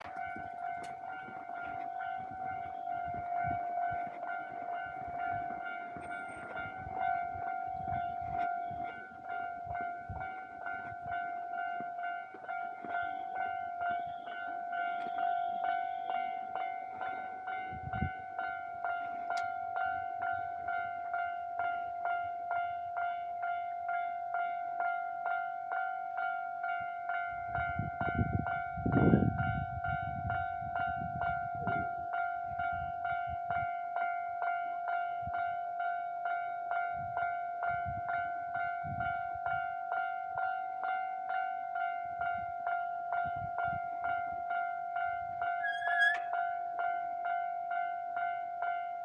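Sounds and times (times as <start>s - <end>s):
level-crossing warning bell: 0.0s - 49.0s.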